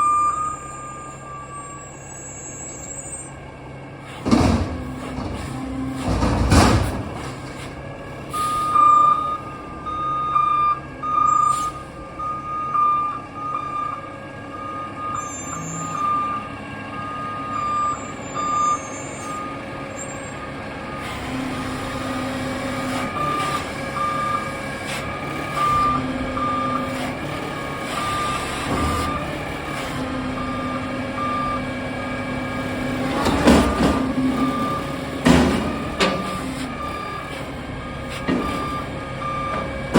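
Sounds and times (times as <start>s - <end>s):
truck backup alarm beeping: 0.0s - 3.5s, 4.1s - 39.9s
diesel engine running: 0.0s - 39.9s.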